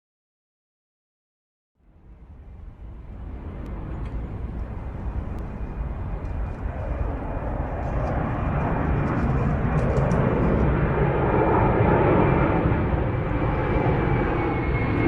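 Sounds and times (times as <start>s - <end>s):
airplane engine rumble: 1.8s - 15.0s.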